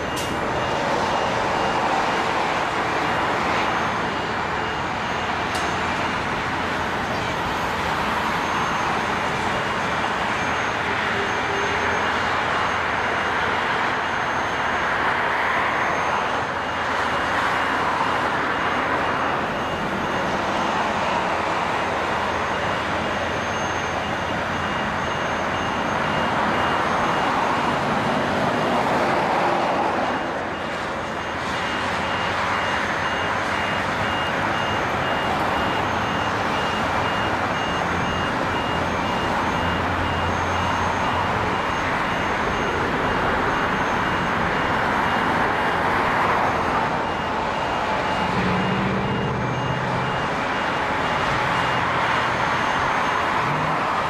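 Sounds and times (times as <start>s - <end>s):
construction machinery din: 0.0s - 54.0s
warning beeper: 0.0s - 54.0s.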